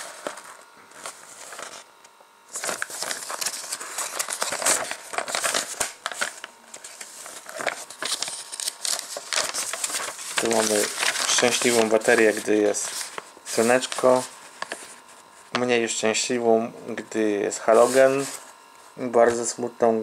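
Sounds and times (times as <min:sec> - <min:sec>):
paper pages rustling: 0:00.0 - 0:01.9, 0:02.5 - 0:15.7, 0:17.6 - 0:18.6.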